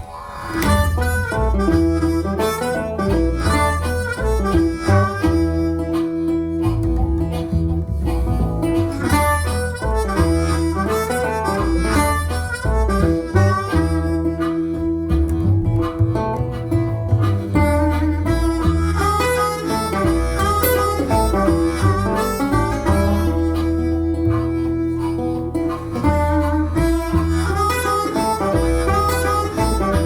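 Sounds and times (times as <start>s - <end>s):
acoustic guitar: 0.0s - 30.0s
bass line: 0.0s - 30.0s
harmonica melody: 0.0s - 30.0s.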